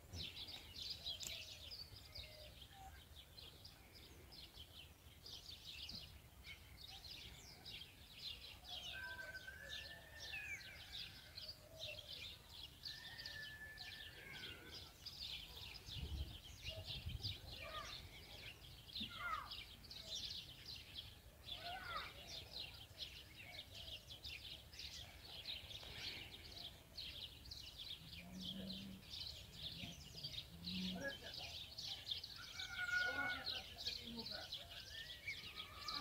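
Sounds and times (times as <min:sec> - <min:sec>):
chorus of small birds chirping: 0:00.0 - 0:36.0.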